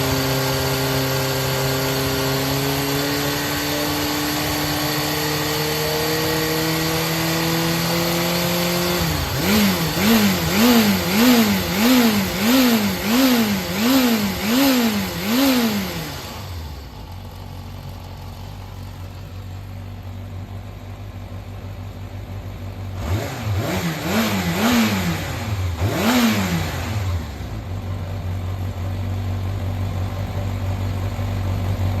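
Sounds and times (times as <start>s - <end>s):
motorcycle engine idling and revving: 0.0s - 32.0s.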